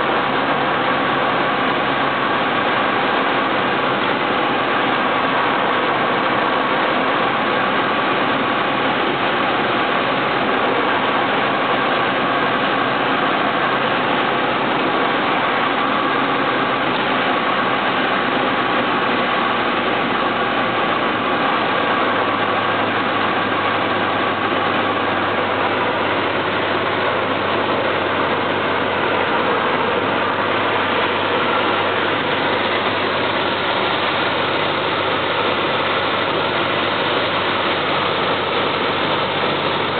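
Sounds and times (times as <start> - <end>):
deeper hum: 0.0 - 39.9
light airplane engine droning: 0.0 - 39.9.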